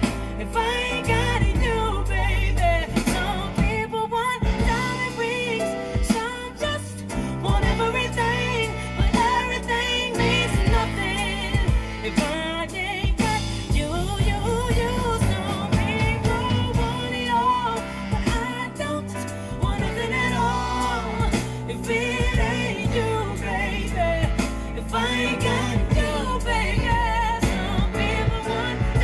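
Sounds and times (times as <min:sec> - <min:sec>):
soul-pop ballad on car stereo: 0:00.0 - 0:29.0.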